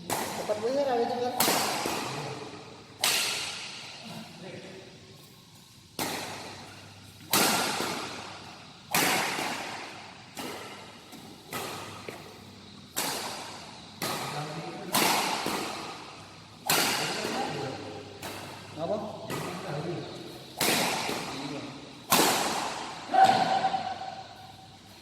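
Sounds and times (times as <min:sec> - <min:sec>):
racket hitting shuttlecock: 0:00.0 - 0:04.2, 0:06.0 - 0:24.9.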